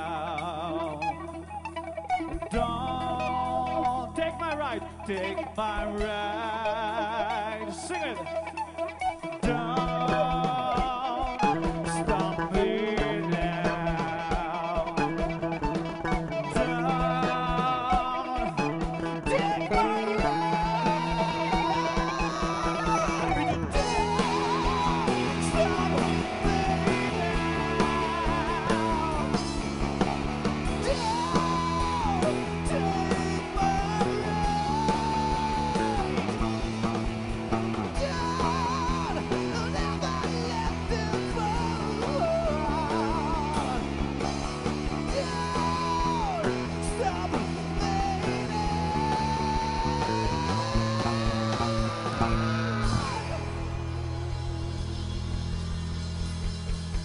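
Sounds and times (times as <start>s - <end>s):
man singing: 0.0s - 55.8s
drums: 0.0s - 57.0s
electric guitars: 0.0s - 57.0s
keyboard: 0.0s - 57.0s.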